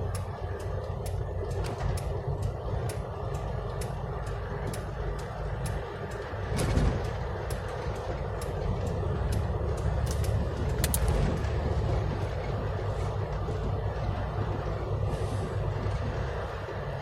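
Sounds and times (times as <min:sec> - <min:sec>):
sharp clicks and ticks: 0:00.0 - 0:15.1
rumble of road traffic: 0:00.0 - 0:17.0.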